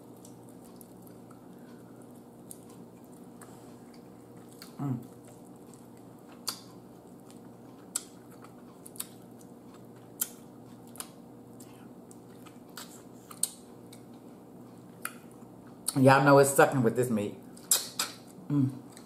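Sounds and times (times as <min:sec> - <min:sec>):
person chewing meat: 0:00.0 - 0:16.0, 0:17.5 - 0:19.0
faint steady hum: 0:00.0 - 0:19.0.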